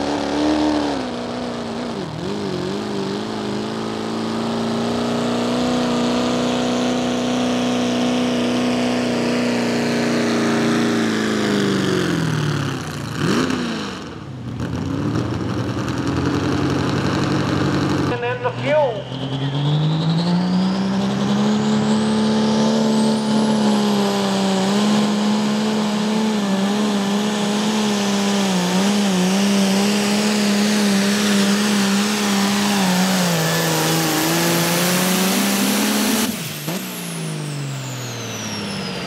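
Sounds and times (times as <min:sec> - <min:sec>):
diesel tractor engine under load: 0:00.0 - 0:39.0.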